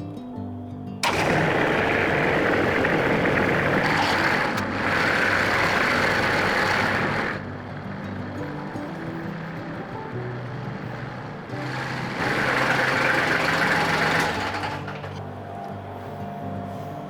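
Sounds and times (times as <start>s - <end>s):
engine running loudly: 1.0s - 17.0s.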